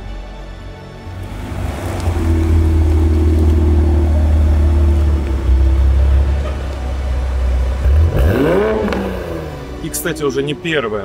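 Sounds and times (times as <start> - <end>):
car engine idling: 1.0 - 11.0.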